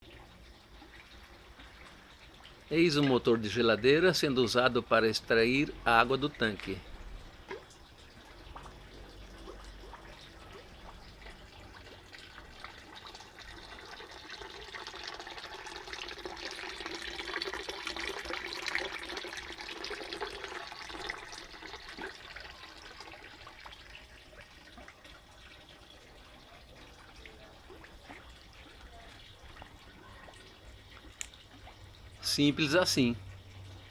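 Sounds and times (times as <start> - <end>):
water splashing and trickling: 0.0 - 33.9.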